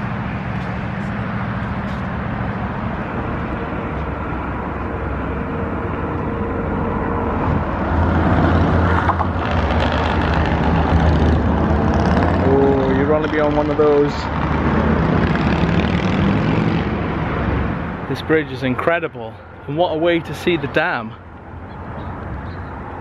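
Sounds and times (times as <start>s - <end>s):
heavy engine: 0.0s - 23.0s
vehicle engines rumbling: 0.0s - 23.0s.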